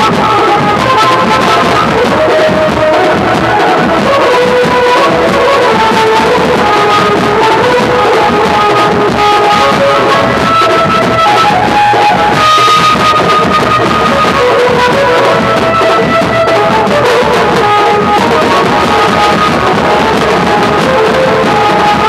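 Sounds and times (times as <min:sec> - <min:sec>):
drums beaten in dense rhythm: 0:00.0 - 0:22.0
melody over drumming: 0:00.0 - 0:22.0.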